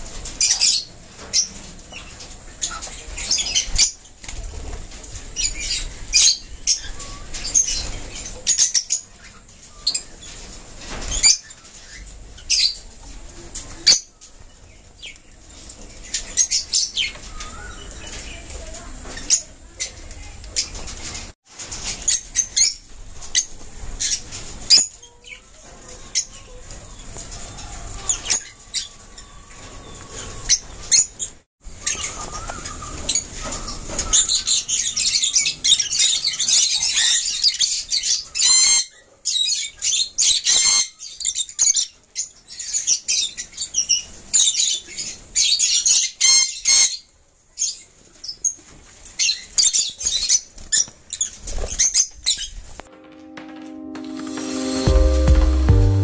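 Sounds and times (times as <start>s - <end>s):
birds chirping and chattering: 0.0s - 52.8s.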